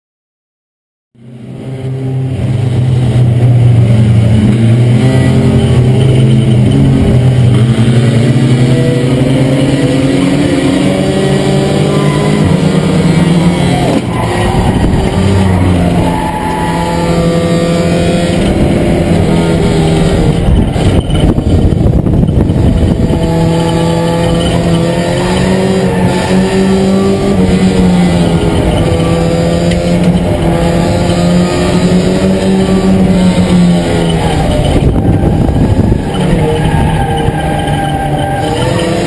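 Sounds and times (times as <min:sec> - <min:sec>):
race car engine accelerating: 0:01.2 - 0:39.0.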